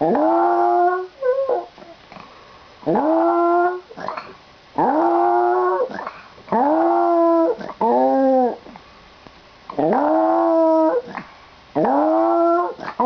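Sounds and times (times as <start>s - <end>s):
dog whining: 0.0s - 2.0s, 2.9s - 8.8s, 9.7s - 13.0s.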